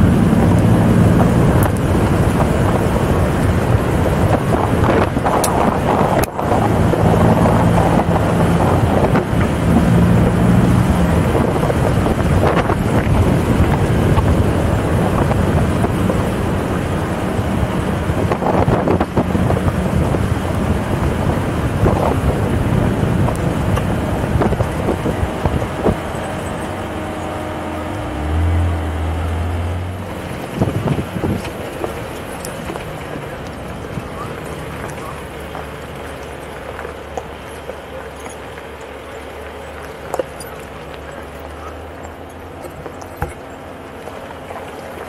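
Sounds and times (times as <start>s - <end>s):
car engine running: 0.0s - 45.0s
wind buffeting microphone: 0.0s - 45.0s.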